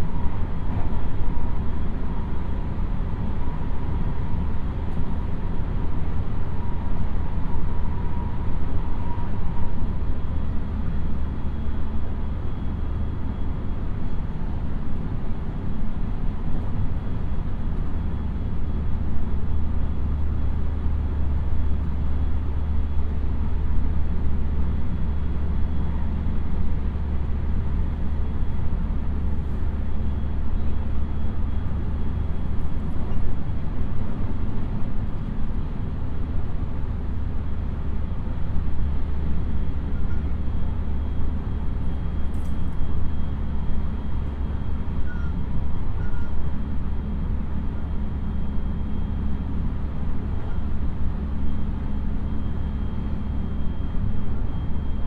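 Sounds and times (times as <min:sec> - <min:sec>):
train wheels rumbling on rails: 0:00.0 - 0:54.8.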